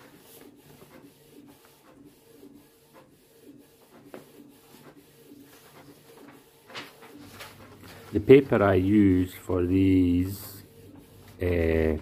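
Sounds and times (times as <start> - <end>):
printer carriage whirring: 0.0 - 12.0.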